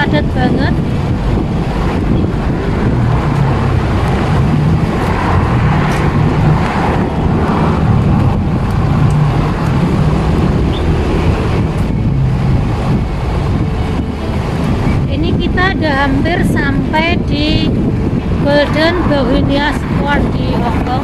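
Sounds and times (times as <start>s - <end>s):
traffic engines rumbling: 0.0s - 21.0s
wind buffeting microphone: 0.0s - 21.0s.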